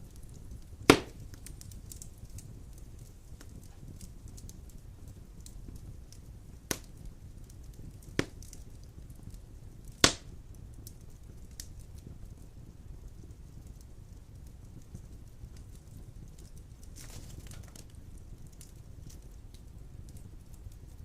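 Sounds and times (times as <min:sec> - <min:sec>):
fire crackling: 0:00.0 - 0:21.0
fire flames rumbling: 0:00.0 - 0:21.0
sharp pops of burning logs: 0:00.0 - 0:21.0.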